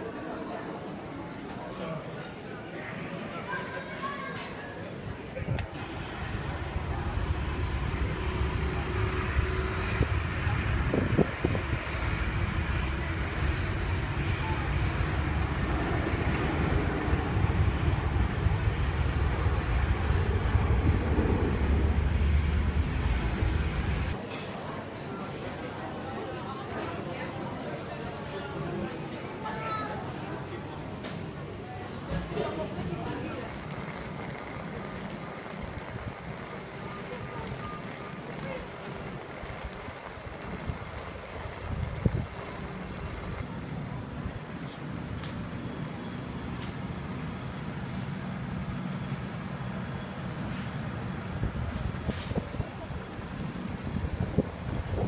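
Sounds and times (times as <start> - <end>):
jet aircraft rumble with hiss: 3.0 - 25.1, 25.9 - 55.0.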